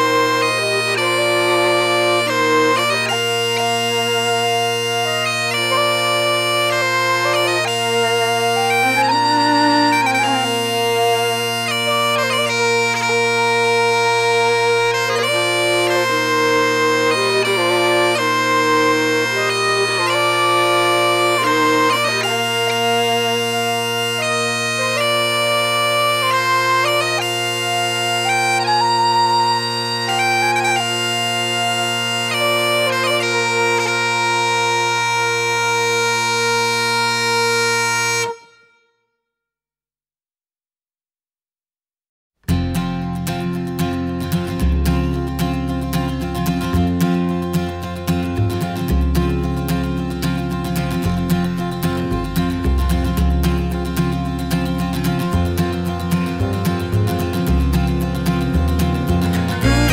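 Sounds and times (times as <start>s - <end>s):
bagpipe drones: 0.0s - 38.9s, 44.6s - 59.9s
bagpipe melody: 0.0s - 38.9s, 43.2s - 59.9s.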